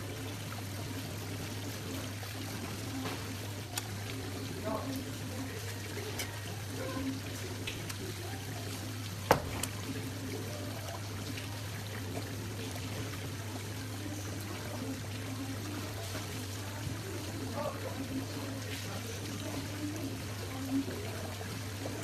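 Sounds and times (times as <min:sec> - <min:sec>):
water trickling and pouring: 0:00.0 - 0:22.0.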